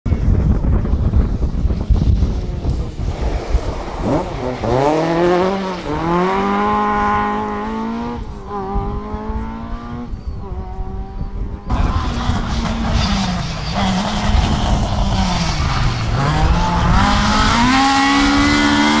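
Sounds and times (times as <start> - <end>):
car engine accelerating hard: 2.4 - 19.0.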